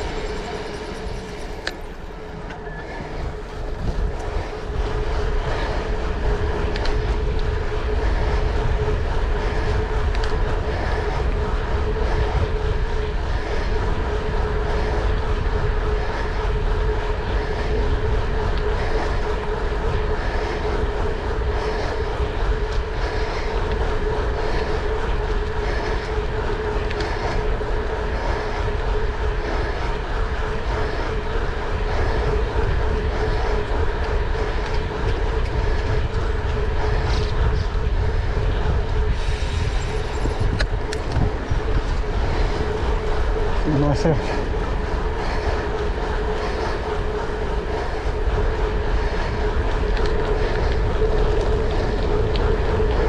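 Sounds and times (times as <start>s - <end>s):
vehicle rumble and hum: 0.0s - 53.0s.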